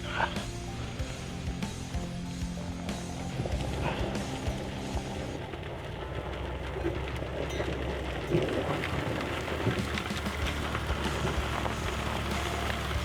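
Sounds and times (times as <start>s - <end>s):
gritty hiss with light ticks: 0.0s - 13.0s
vehicle engine humming: 0.0s - 13.0s.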